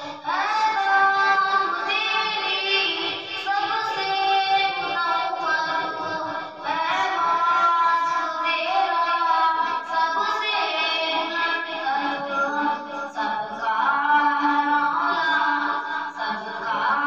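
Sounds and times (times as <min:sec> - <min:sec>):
boy singing: 0:00.0 - 0:17.0.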